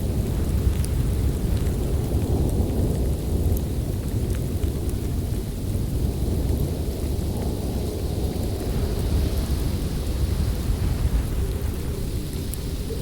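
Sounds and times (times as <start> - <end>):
blizzard wind rushing: 0.0 - 13.0.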